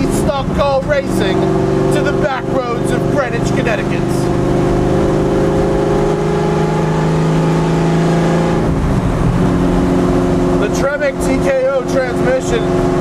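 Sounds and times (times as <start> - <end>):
race car exhaust from cabin: 0.0 - 13.0.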